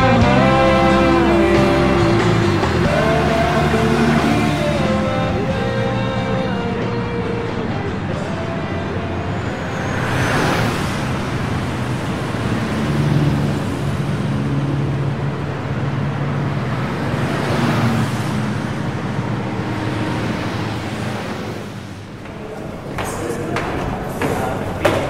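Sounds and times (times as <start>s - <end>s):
motorcycles passing: 0.0s - 25.0s
road traffic passing: 0.0s - 25.0s.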